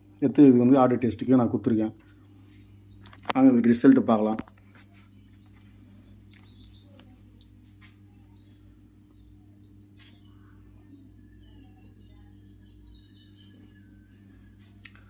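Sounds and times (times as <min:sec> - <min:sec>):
faint birds chirping: 0:00.0 - 0:15.0
low electrical hum: 0:00.0 - 0:15.0.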